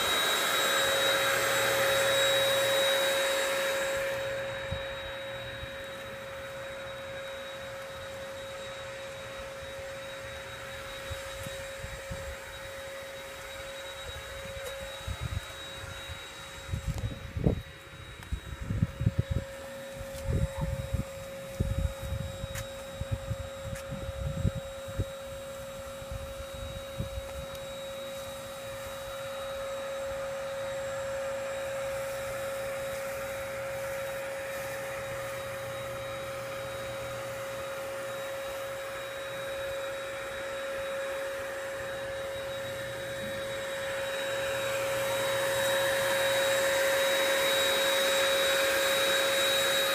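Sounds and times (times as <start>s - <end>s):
motor whine: 0.0s - 49.9s.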